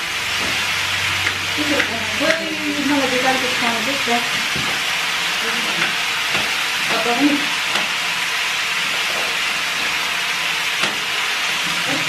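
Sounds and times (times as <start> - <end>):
food sizzling in pan: 0.0 - 12.0.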